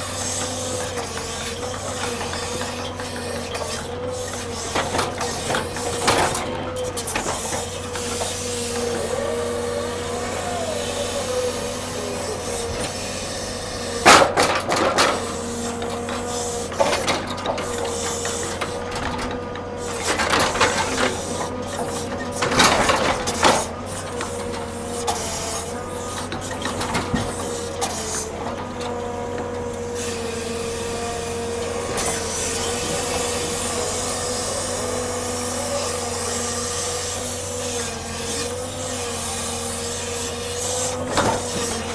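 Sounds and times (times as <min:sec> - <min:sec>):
machinery whine: 0:00.0 - 0:41.9.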